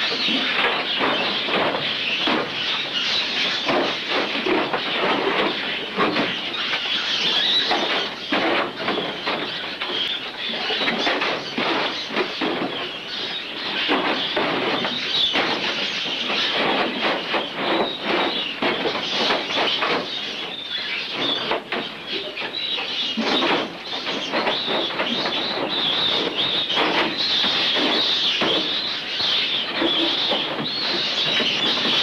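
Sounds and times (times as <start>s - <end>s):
wire-mesh cages rattling: 0.0s - 32.0s.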